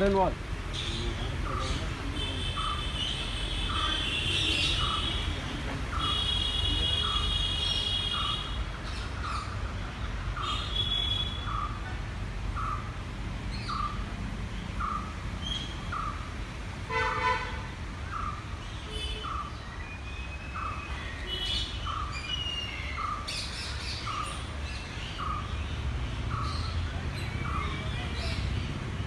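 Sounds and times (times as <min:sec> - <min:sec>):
birds chirping and whistling: 0:00.7 - 0:09.7, 0:10.3 - 0:11.8, 0:13.5 - 0:16.3, 0:18.0 - 0:28.8.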